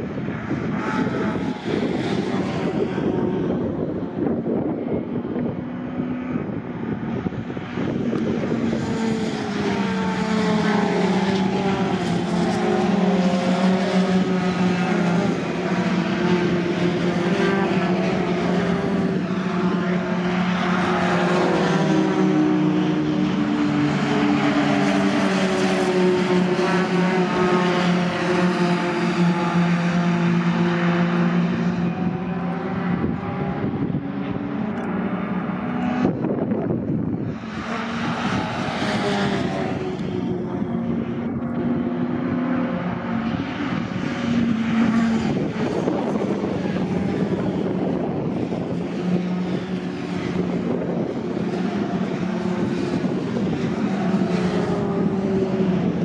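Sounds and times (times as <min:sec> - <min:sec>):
racing truck engines passing: 0:00.0 - 0:56.0.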